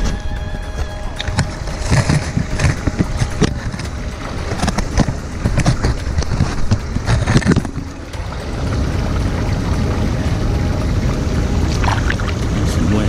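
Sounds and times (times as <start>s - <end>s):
creek water splashing: 0.0s - 13.0s
low rumble: 0.0s - 13.0s.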